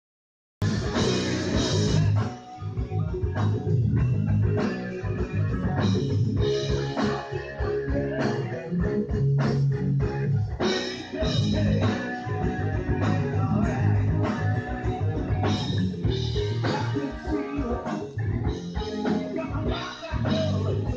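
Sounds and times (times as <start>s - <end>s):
electric guitar riff: 0.6s - 9.0s, 10.6s - 20.9s
bass guitar: 0.6s - 20.9s
drum kit: 0.6s - 20.9s.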